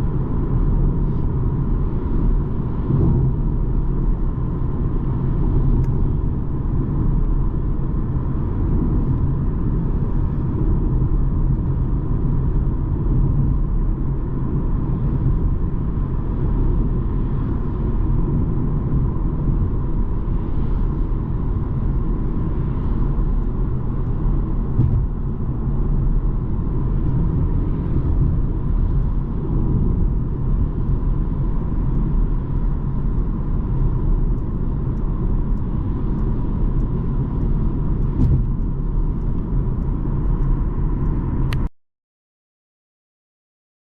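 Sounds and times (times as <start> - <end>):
car driving road rumble: 0.0 - 41.7.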